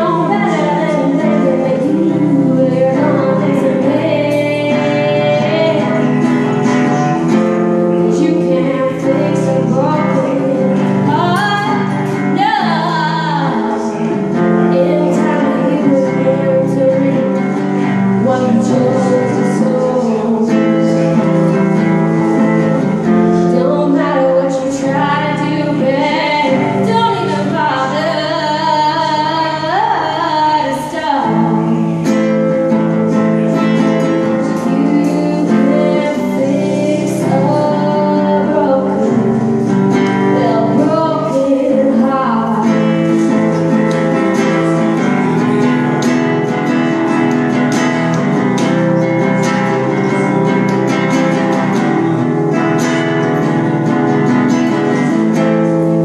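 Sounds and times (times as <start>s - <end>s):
woman singing: 0.0s - 55.7s
acoustic guitar chords: 0.0s - 56.0s.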